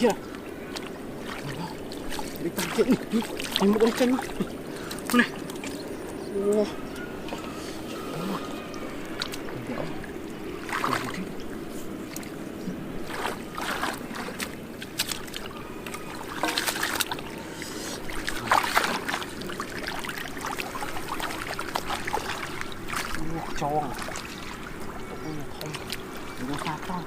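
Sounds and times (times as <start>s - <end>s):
steady low hum: 0.0s - 27.0s
water splashing: 0.0s - 27.0s.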